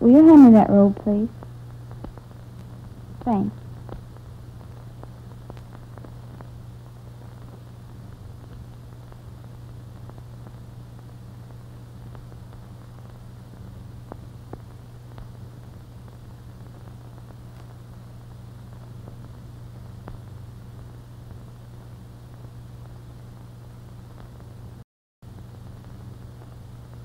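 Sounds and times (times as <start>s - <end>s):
film soundtrack hum and hiss: 0.0s - 27.0s
faint crackling clicks: 1.0s - 23.2s.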